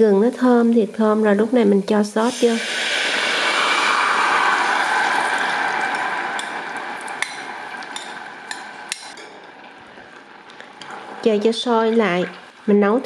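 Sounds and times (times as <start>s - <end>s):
sauce sizzling in hot oil: 0.3s - 13.0s.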